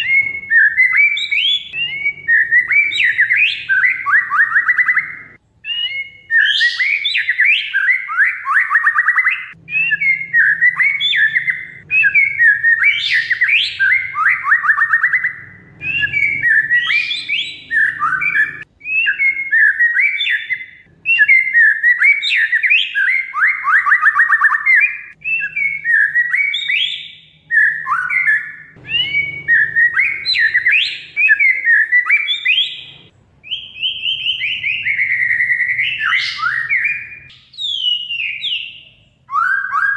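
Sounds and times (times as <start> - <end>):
songbird trilling and whistling: 0.0 - 39.9.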